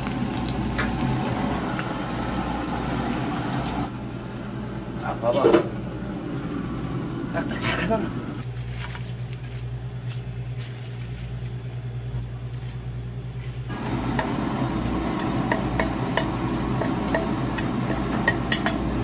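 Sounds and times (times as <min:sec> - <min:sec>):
low kitchen hum: 0:00.0 - 0:19.0.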